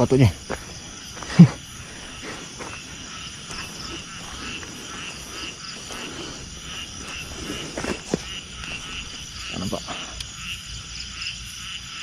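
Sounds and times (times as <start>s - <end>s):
crickets pulsing trill: 0.0s - 12.0s.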